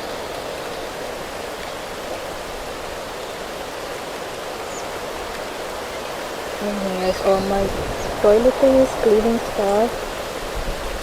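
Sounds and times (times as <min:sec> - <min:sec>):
steady hiss of rain: 0:00.0 - 0:11.0.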